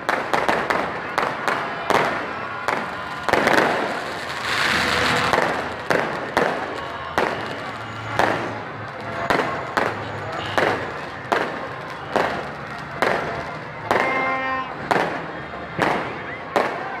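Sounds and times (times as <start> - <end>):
fireworks hissing crackle: 0.0 - 14.0
fireworks bangs: 0.0 - 17.0.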